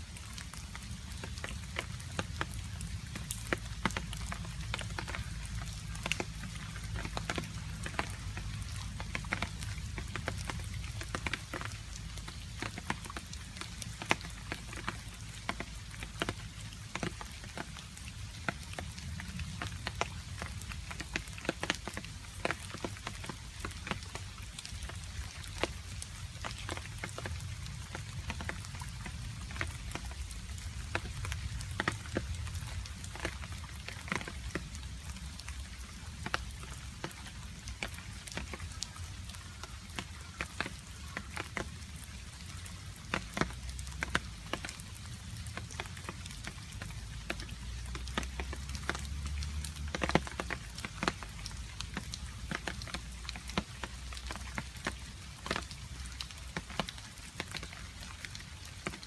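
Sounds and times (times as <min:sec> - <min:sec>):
rain hiss: 0:00.0 - 0:59.0
water drops dripping and tapping: 0:00.2 - 0:59.0.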